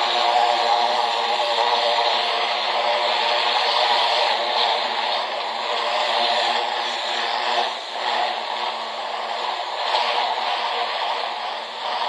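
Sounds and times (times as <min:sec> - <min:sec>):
electric motor and pump hum: 0:00.0 - 0:12.0.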